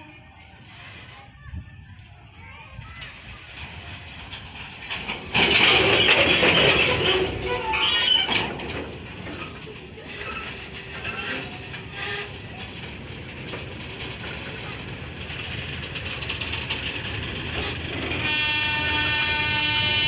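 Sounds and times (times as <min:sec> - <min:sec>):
train wheels rumbling on rails: 0:00.0 - 0:20.0
wheels clacking over rail joints: 0:00.6 - 0:20.0.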